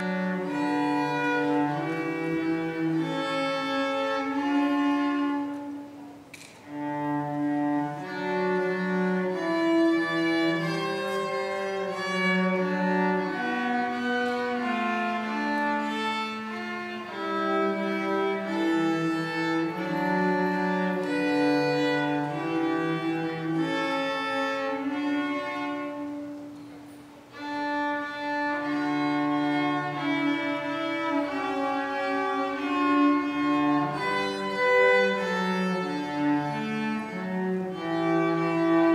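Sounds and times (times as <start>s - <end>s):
violin and cello duet: 0.0s - 38.9s.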